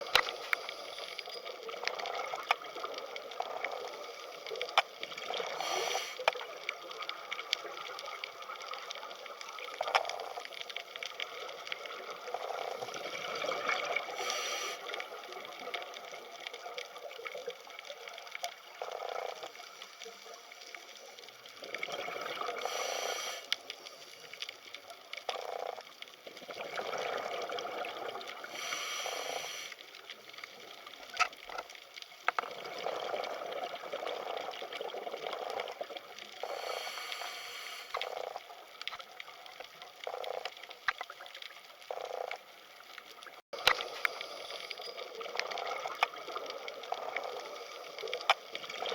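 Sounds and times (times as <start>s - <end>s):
underwater bubbling and trickling: 0.0s - 48.9s.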